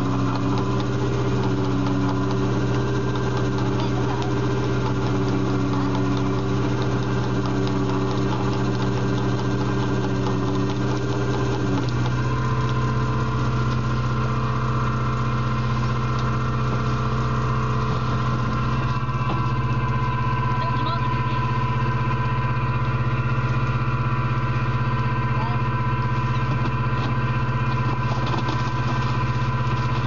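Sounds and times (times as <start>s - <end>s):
boat engine and hydraulic gear hum: 0.0s - 30.0s.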